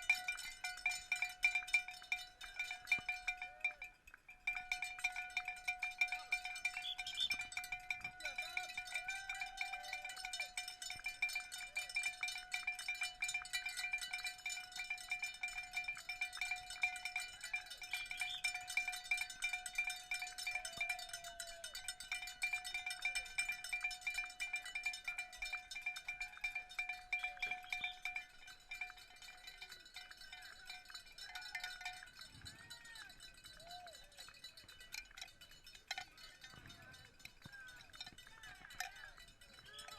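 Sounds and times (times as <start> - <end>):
bell shaken rapidly: 0.0 - 39.9.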